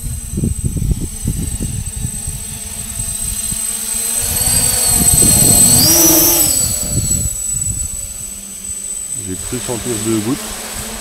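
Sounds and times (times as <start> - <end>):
gusty low rumble: 0.0 - 10.0
drone propellers whirring: 0.0 - 11.0
high whine: 0.0 - 11.0.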